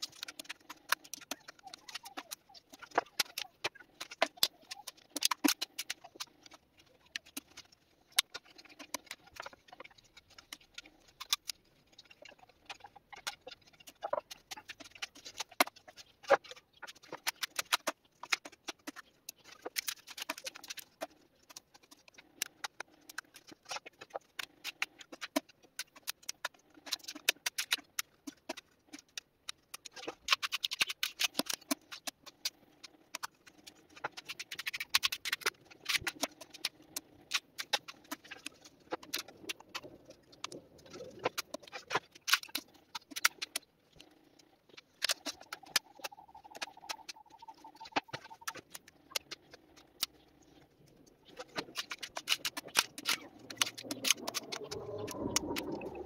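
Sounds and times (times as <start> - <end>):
wooden boards clicking and tapping: 0.0 - 56.0.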